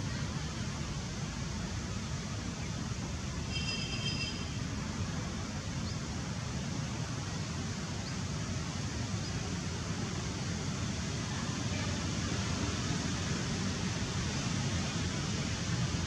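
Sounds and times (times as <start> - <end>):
low outdoor rumble and hiss: 0.0 - 16.0.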